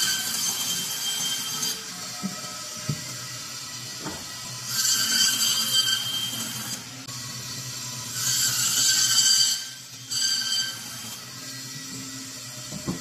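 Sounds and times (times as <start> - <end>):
saw humming: 0.0 - 13.0.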